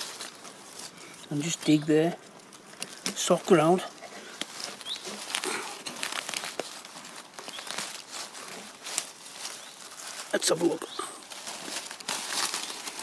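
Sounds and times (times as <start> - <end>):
dry leaves rustling while digging: 0.0 - 13.0.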